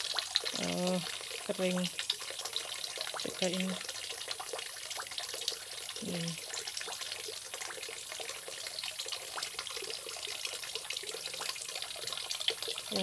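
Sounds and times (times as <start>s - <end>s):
water trickling into pond: 0.0s - 13.0s.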